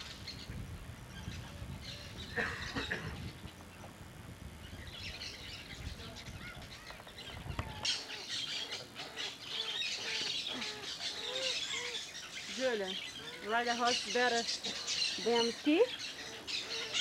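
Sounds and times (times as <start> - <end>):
birds calling and chirping: 0.0 - 17.0.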